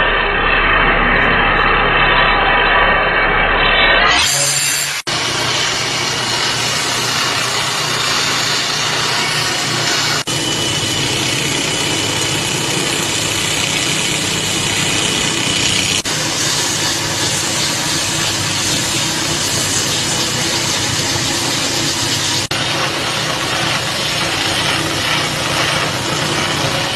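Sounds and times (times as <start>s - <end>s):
belt grinder grinding steel: 3.7s - 26.9s.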